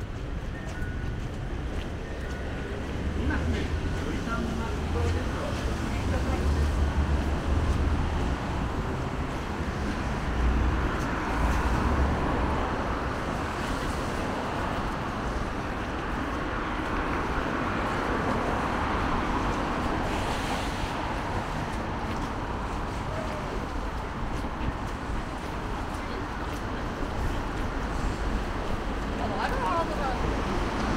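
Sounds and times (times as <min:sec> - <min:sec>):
city street traffic: 0:00.0 - 0:30.9.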